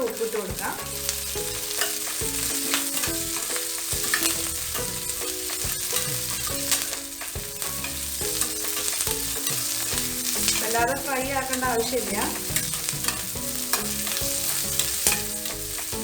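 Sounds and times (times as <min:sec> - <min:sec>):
onion sizzling in oil: 0:00.0 - 0:16.0
spoon clicking against pan: 0:00.4 - 0:10.6, 0:11.5 - 0:15.8.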